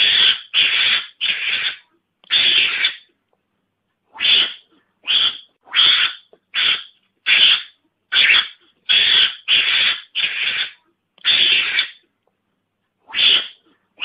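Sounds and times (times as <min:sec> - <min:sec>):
mongoose harsh calls: 0:00.0 - 0:03.1, 0:04.1 - 0:12.1, 0:13.0 - 0:14.0.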